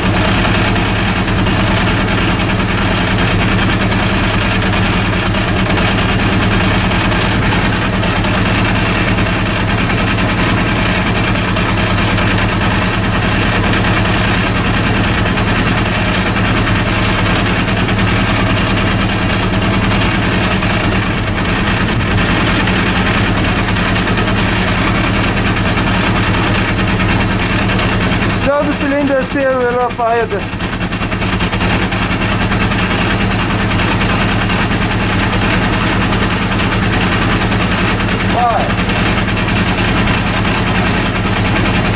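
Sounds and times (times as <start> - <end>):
motorcycle engine idling unevenly: 0.0 - 41.9.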